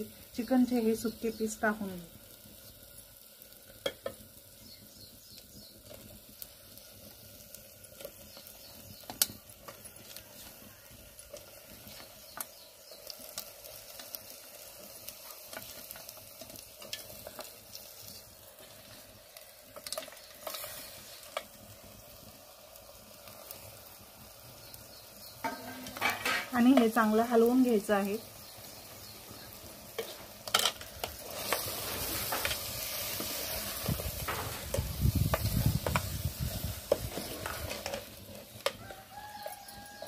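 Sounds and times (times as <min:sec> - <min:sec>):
meat sizzling in a metal pot: 0:00.0 - 0:40.0.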